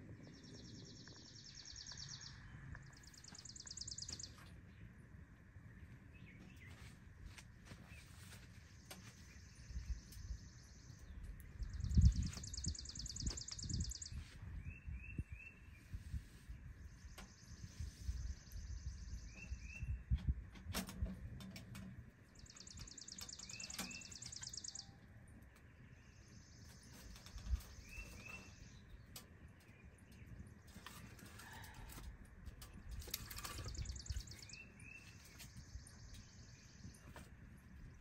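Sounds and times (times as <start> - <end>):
songbird trill: 0.0 - 38.0.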